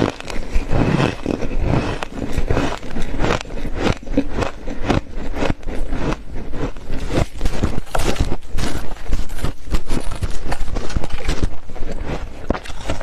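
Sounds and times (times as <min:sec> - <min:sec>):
person chewing frost crunches: 0:00.0 - 0:13.0.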